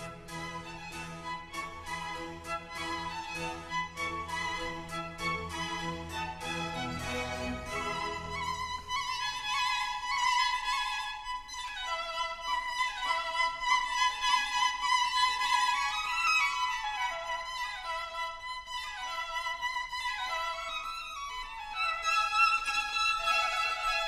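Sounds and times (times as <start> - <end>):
instrumental background music: 0.0 - 20.6.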